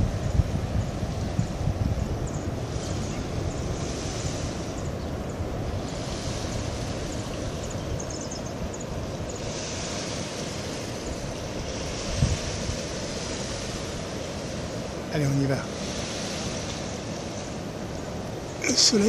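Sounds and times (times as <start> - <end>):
distant surf breaking: 0.0 - 19.0
wind rumbling on microphone: 0.0 - 19.0.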